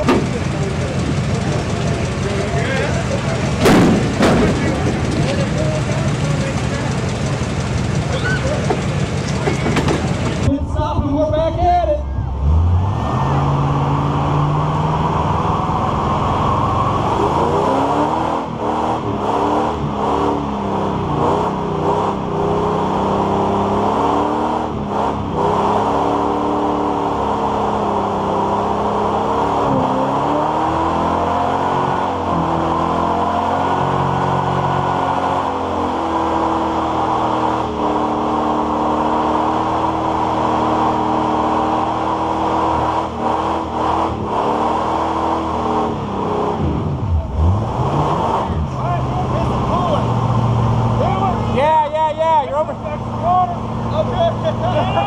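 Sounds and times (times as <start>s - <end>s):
engine revving hard: 0.0s - 10.5s, 12.4s - 55.0s.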